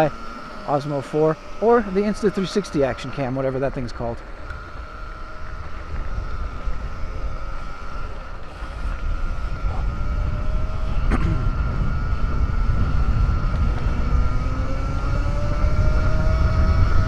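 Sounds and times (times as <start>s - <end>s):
electric motorbike motor whining: 0.0s - 17.0s
wind rumble on microphone: 1.7s - 17.0s.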